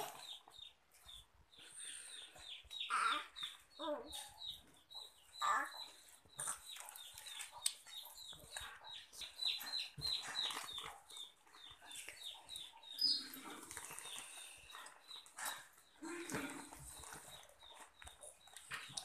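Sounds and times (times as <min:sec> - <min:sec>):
bird chirping: 0:00.0 - 0:19.0.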